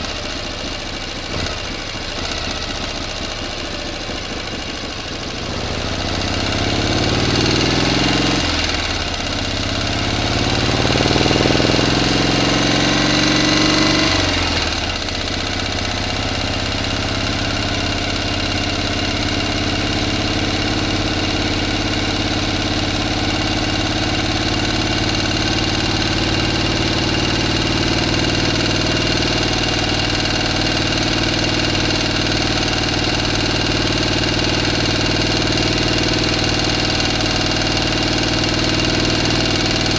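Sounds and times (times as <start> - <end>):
motor engine revving: 1.1 - 39.9.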